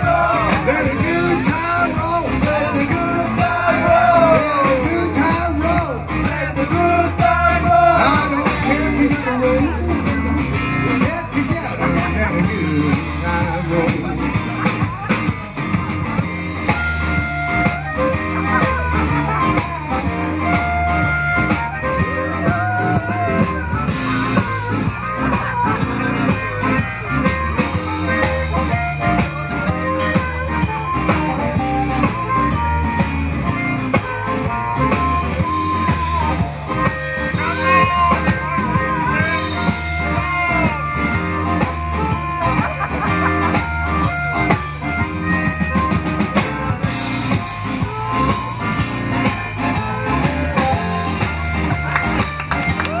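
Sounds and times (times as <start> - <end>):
blues band playing: 0.0 - 53.0.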